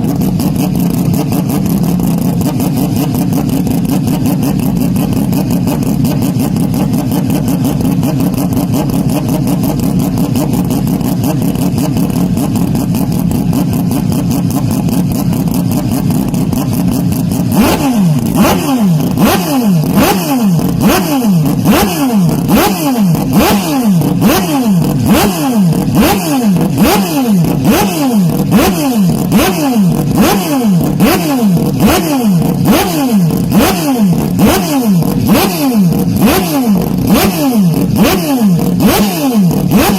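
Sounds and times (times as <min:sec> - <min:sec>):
overdriven racing car engine: 0:00.0 - 0:39.9.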